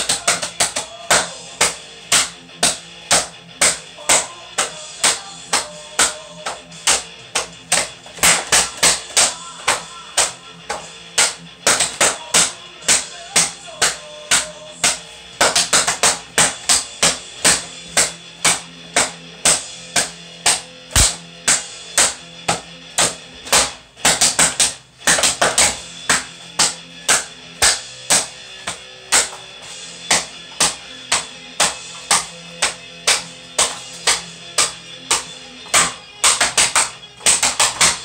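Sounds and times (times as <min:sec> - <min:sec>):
drumsticks tapping cardboard tubes: 0:00.0 - 0:38.0.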